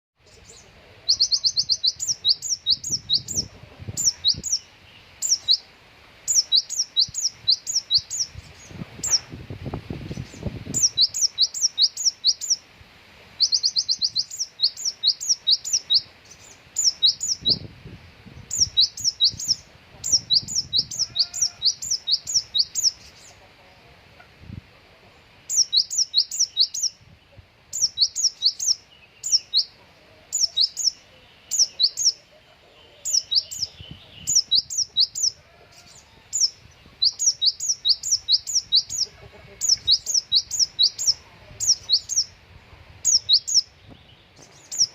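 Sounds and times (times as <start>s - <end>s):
songbird singing high chirps: 0.2s - 12.7s, 13.4s - 23.7s, 25.4s - 44.9s.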